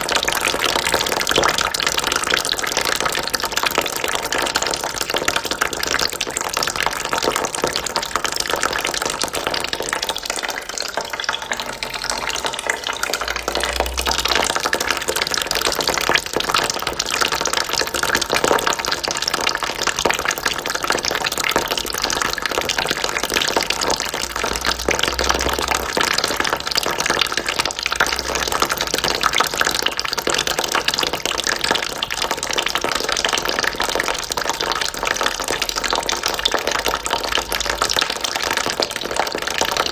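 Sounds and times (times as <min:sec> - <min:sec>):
water trickling into a bucket: 0:00.0 - 0:39.9.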